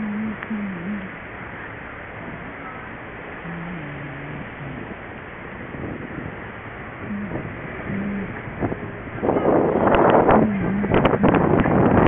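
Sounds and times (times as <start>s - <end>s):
rushing street noise: 0.0s - 12.0s.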